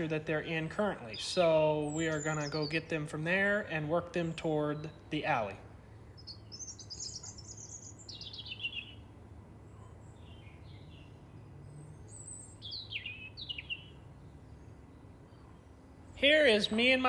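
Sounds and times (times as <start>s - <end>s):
faint low hum: 0.0s - 17.0s
songbirds singing: 0.0s - 17.0s.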